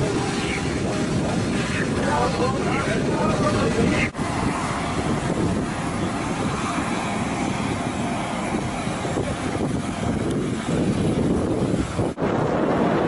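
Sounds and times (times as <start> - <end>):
aircraft machinery rushing noise: 0.0 - 13.0.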